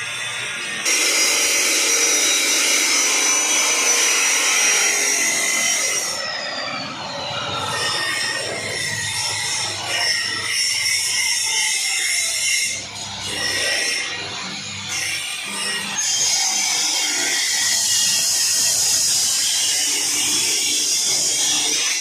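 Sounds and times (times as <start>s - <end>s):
saw grinding through steel: 0.0s - 22.0s.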